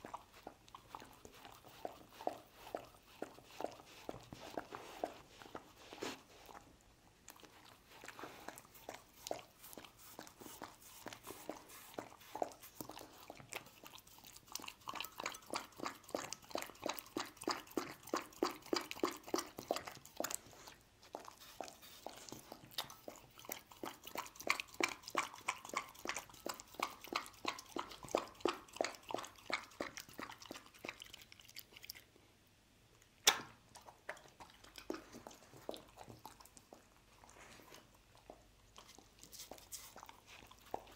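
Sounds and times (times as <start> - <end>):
dog chewing wetly: 0.0 - 32.4, 33.2 - 40.9.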